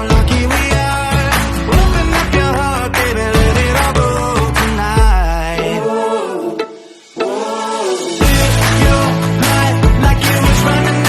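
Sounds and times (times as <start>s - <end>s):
sung vocal music: 0.0s - 11.0s.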